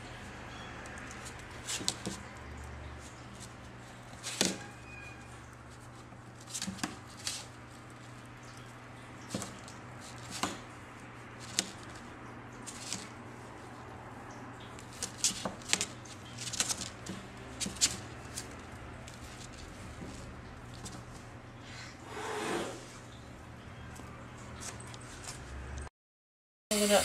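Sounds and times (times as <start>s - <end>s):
kitten paws tapping and scrabbling: 0.9s - 21.4s, 23.1s - 25.8s.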